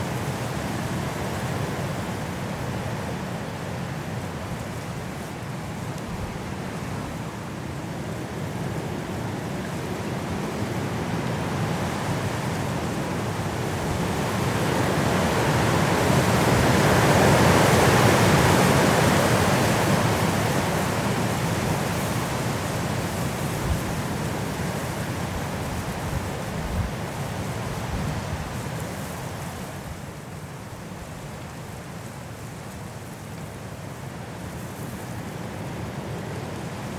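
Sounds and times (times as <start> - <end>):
strong wind rushing through trees: 0.0 - 36.9.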